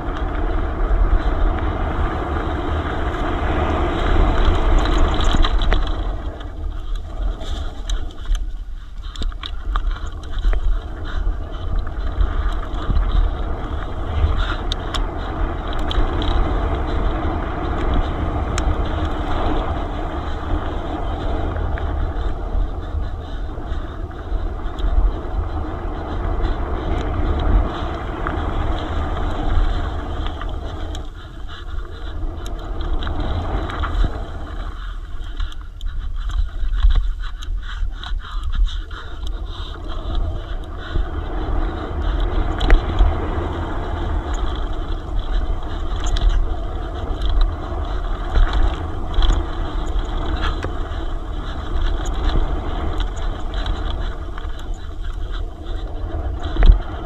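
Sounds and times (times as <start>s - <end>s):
bike rattling: 0.0s - 57.0s
wind rumbling on microphone: 0.0s - 57.0s.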